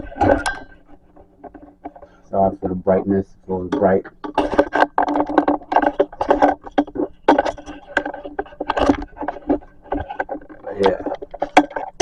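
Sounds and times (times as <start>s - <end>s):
objects rattling and clattering: 0.0s - 12.0s.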